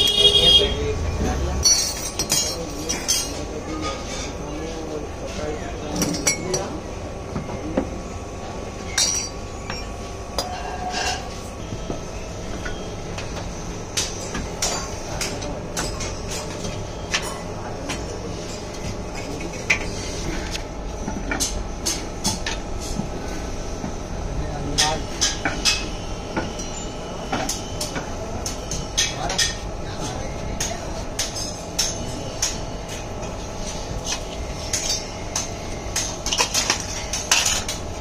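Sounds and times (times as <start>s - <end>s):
low furnace rumble: 0.0s - 38.0s.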